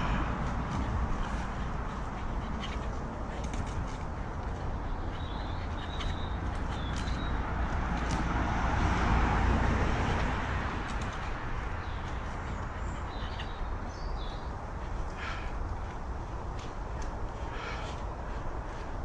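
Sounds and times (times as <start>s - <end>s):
rushing noise with low rumble: 0.0s - 19.0s.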